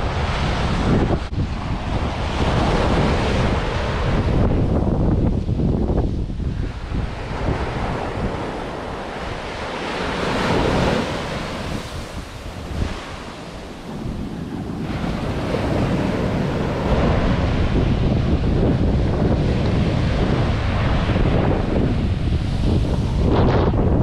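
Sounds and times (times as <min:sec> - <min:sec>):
ocean surf breaking on sand: 0:00.0 - 0:24.0
wind buffeting microphone: 0:00.0 - 0:24.0.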